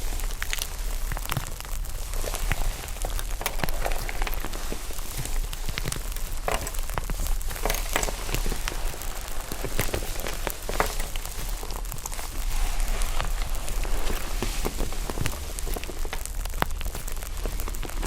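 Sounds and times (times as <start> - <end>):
slime crackling and popping: 0.0 - 18.0.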